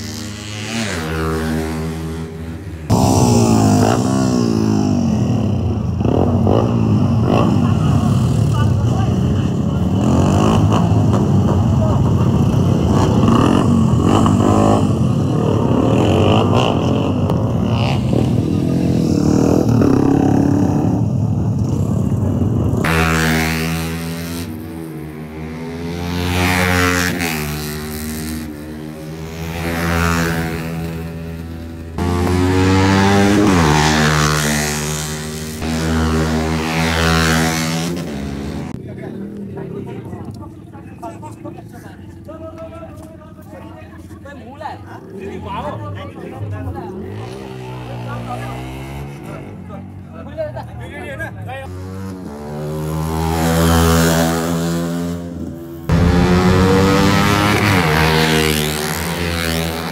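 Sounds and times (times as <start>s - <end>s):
race motorcycles passing: 0.0s - 59.9s.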